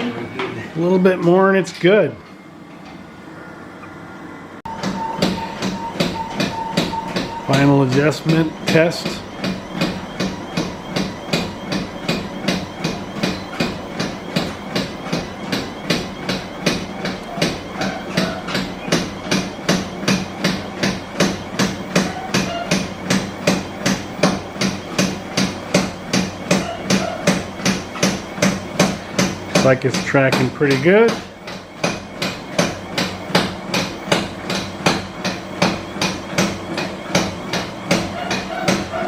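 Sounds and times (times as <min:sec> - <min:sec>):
treadmill motor humming: 0:00.0 - 0:39.0
footfalls thumping on treadmill belt: 0:04.7 - 0:39.0.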